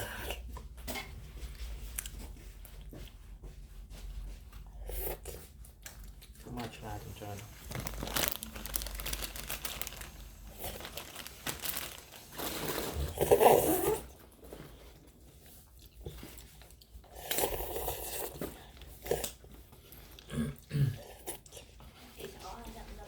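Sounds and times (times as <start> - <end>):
crinkling and rustling: 0.7 - 17.6, 21.4 - 23.0.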